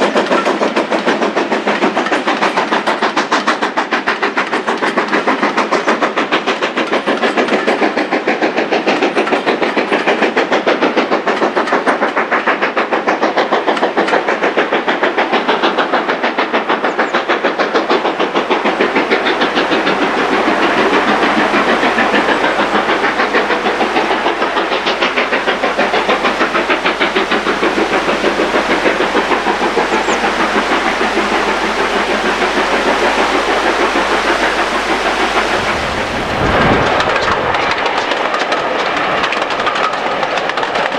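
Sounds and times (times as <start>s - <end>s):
steam locomotive exhaust beating: 0.0s - 40.9s.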